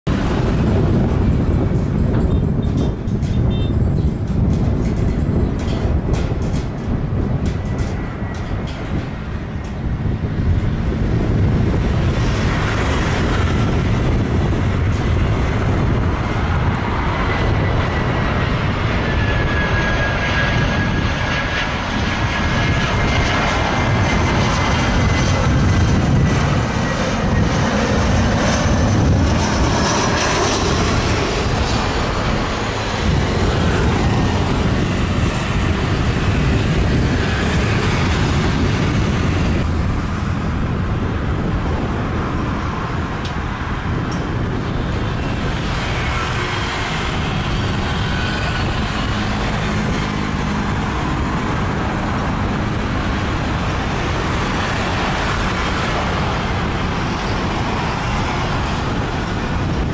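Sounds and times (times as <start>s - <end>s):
heavy vehicle engine hum: 0.0s - 59.9s
jet airliner whine: 0.0s - 59.9s
road traffic rumble: 0.0s - 59.9s.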